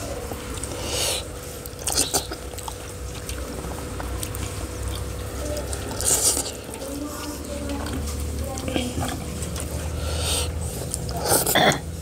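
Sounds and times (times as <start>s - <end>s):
crackly wet bursts: 0.0s - 12.0s
wet chewing and slurping: 0.0s - 12.0s.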